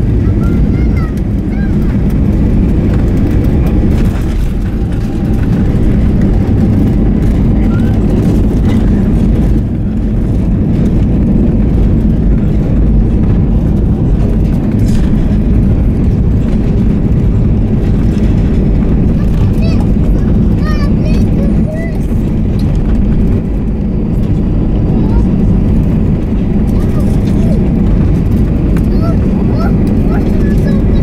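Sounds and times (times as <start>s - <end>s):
jet engine cabin rumble: 0.0s - 31.0s.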